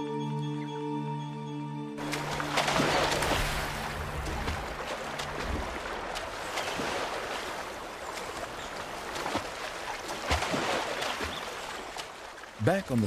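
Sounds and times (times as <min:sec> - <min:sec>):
river water rushing: 0:02.0 - 0:13.0.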